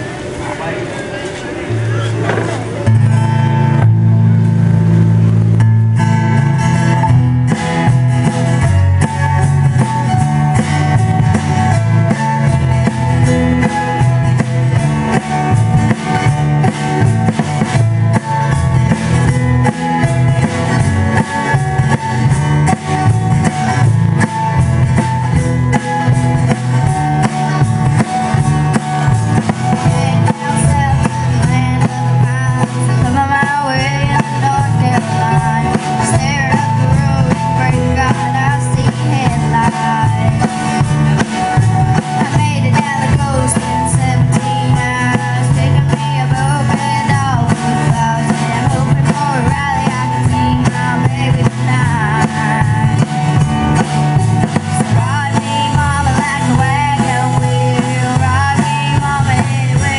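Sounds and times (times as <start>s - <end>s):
acoustic guitar: 0.0s - 59.9s
drum kit: 0.0s - 59.9s
pitch-bending melody line: 0.0s - 59.9s
upright bass: 0.0s - 59.9s.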